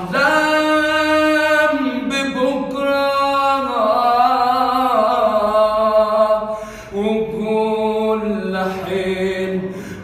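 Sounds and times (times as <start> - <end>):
man singing long held notes: 0.0 - 10.0.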